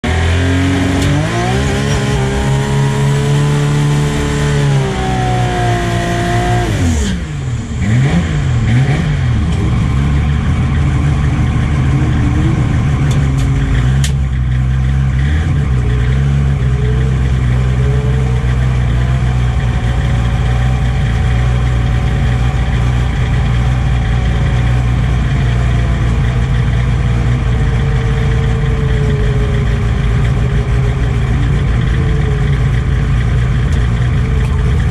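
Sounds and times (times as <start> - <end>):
car engine revving and idling: 0.0 - 34.9.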